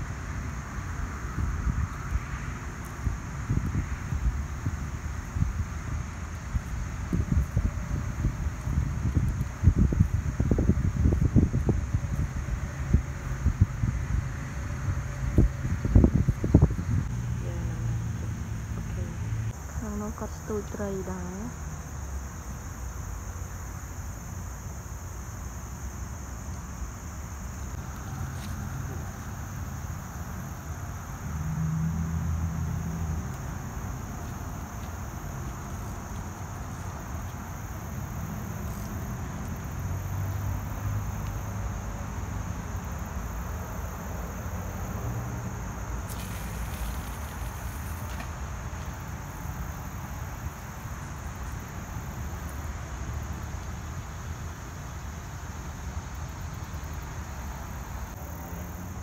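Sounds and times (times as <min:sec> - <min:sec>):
low outdoor rumble: 0:00.0 - 0:55.0
high-pitched insect chorus: 0:00.0 - 0:59.0.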